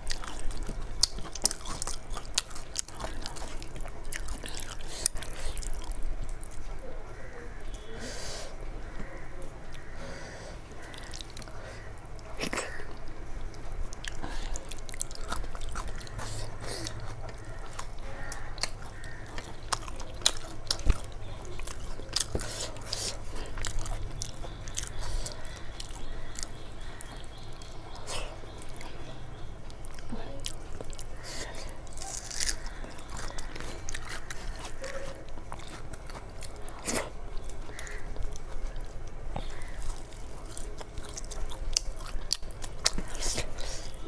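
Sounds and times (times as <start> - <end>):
chewing food: 0.0 - 7.9, 8.8 - 44.0.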